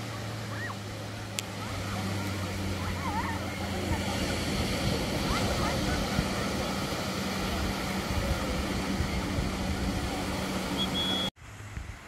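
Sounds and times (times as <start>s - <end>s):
drone buzzing overhead: 0.0s - 11.7s
beach surf: 0.0s - 12.0s.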